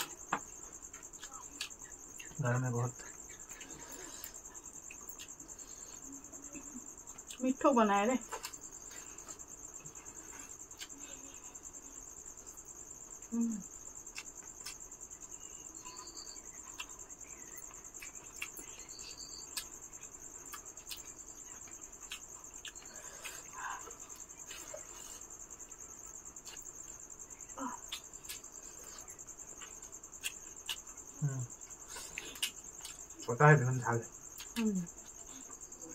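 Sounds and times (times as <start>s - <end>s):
people eating by hand: 0.0s - 7.5s, 8.2s - 35.9s
crickets chirring: 0.0s - 35.9s.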